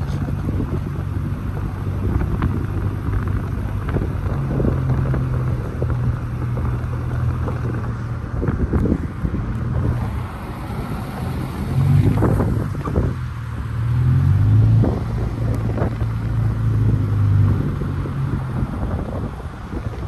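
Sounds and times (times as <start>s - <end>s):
car engine hum: 0.0s - 20.0s
wind buffeting microphone: 0.0s - 20.0s.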